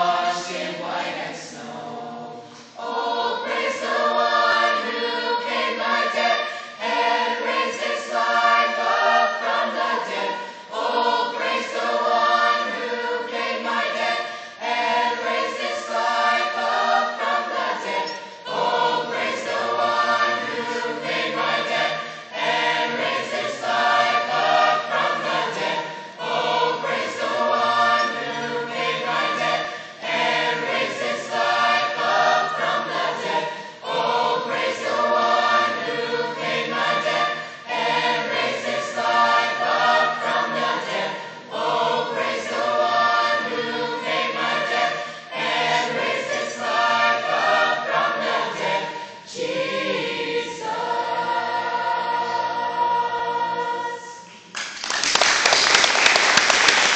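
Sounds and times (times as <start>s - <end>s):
mixed choir singing: 0.0s - 56.9s.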